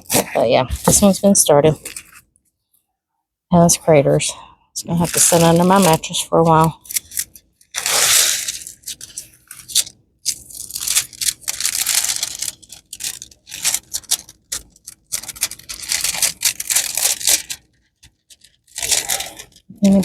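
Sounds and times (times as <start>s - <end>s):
canvas and plastic crinkling: 0.0s - 2.3s, 4.8s - 20.0s.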